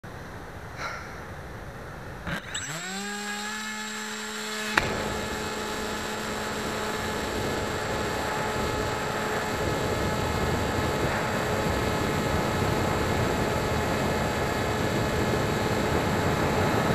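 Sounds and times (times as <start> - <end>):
electric motor whine: 2.2 - 16.9.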